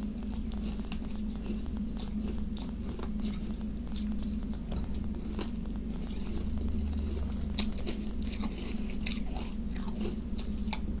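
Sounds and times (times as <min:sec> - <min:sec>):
chewing crushed ice: 0:00.0 - 0:11.0
low hum: 0:00.0 - 0:11.0.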